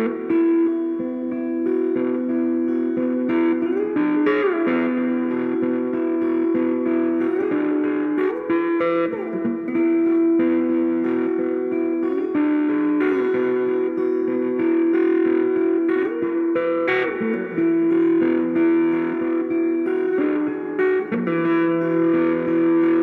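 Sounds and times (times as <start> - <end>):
fuzz electric guitar melody: 0.0 - 23.0.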